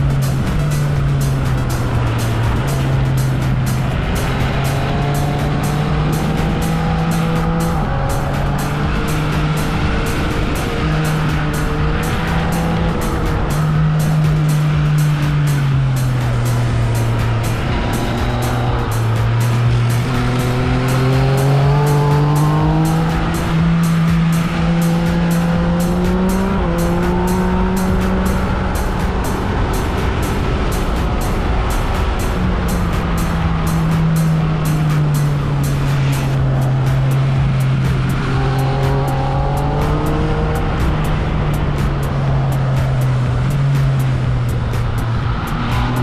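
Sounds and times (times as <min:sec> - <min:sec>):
motorcycle engine under load: 0:00.0 - 0:45.9
wind rush on microphone: 0:00.0 - 0:46.0.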